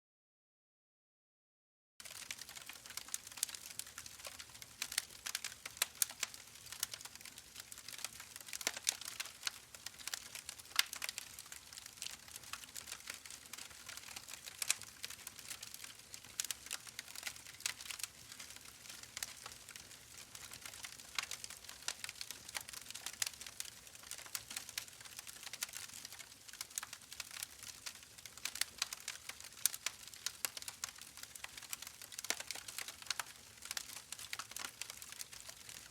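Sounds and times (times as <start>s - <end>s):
campfire wood crackling: 2.0s - 35.9s.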